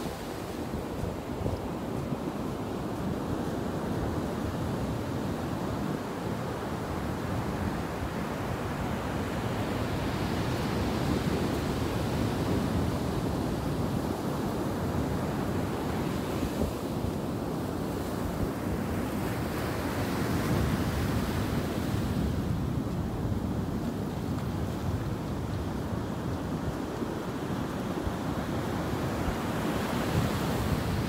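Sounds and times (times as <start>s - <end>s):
ocean surf breaking on beach: 0.0s - 31.0s.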